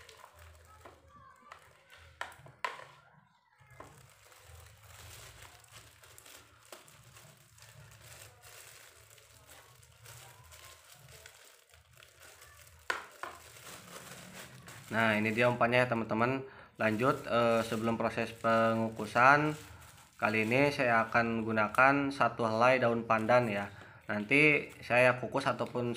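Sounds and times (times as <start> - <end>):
plastic bag crinkling: 0.0 - 3.0, 3.6 - 25.9.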